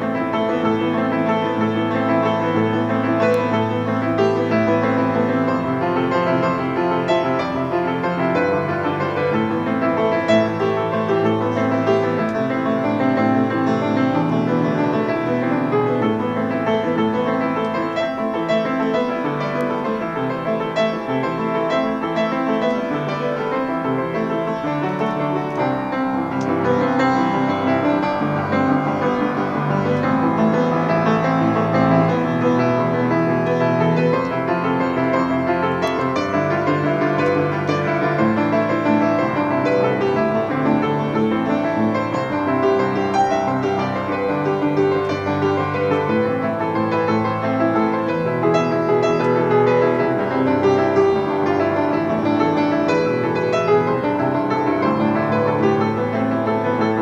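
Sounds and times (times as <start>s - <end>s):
solo piano: 0.0s - 57.0s.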